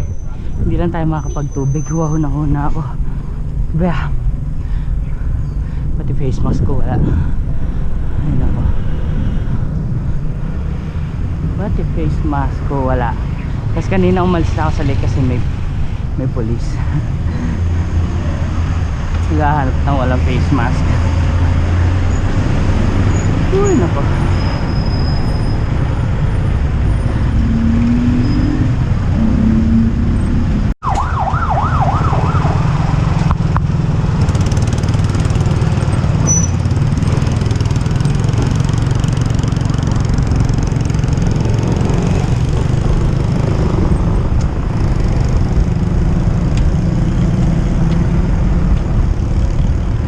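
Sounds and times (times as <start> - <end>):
wind rumble on microphone: 2.5 - 50.0.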